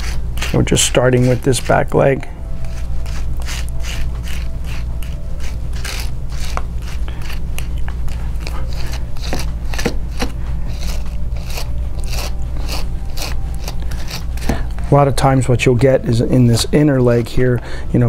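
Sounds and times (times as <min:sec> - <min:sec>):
brush scratching through fur: 0:00.0 - 0:14.5
steady low hum: 0:00.0 - 0:18.0.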